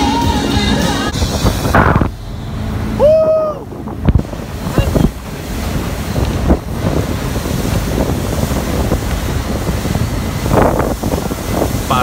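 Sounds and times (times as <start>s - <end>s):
rushing water and spray: 0.0s - 12.0s
wind buffeting microphone: 0.7s - 12.0s.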